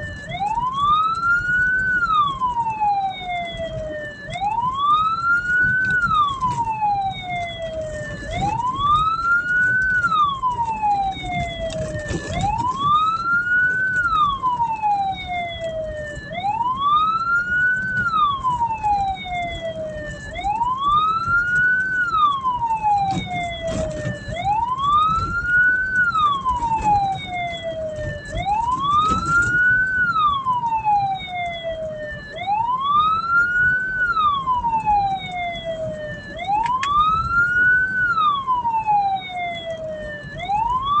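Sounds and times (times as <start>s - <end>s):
siren wailing: 0.0s - 41.0s
vehicle rumbling on road: 0.0s - 41.0s.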